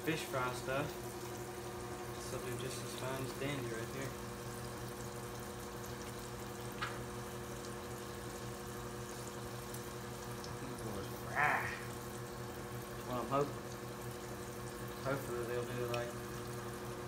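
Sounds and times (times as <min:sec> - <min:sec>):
oil bubbling in deep fryer: 0:00.0 - 0:17.0.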